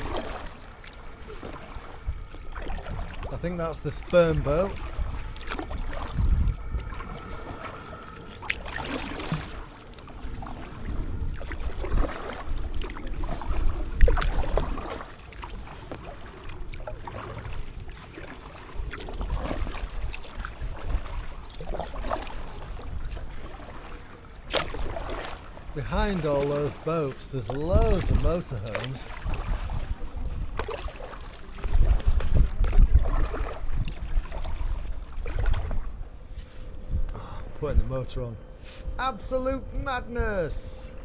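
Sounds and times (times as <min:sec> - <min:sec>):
low uneven rumble: 0:00.0 - 0:17.7, 0:25.4 - 0:41.0
paddle splashing in water: 0:00.0 - 0:36.8.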